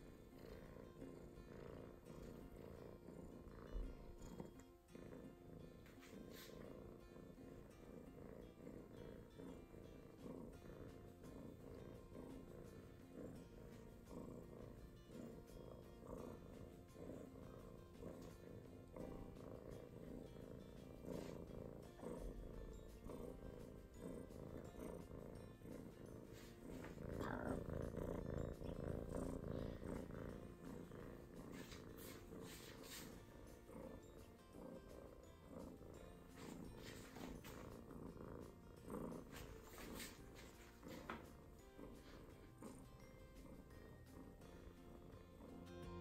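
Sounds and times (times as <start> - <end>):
kitten purring: 0.0 - 46.0.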